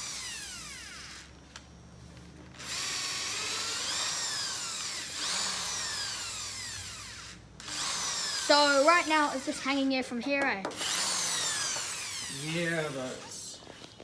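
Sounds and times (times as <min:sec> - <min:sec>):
power drill motor whine: 0:00.0 - 0:01.6, 0:02.5 - 0:09.8, 0:10.7 - 0:14.0.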